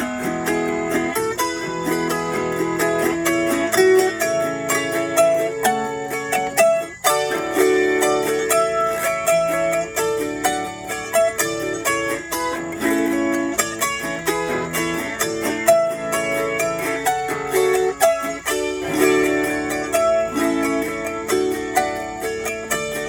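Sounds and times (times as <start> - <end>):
autoharp plucked melody: 0.0 - 23.0.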